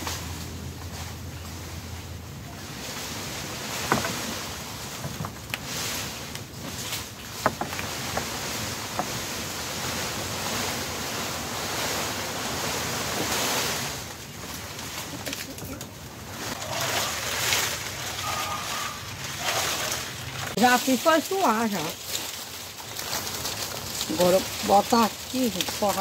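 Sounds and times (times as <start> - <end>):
palm fronds rustling and scraping: 0.0 - 26.0.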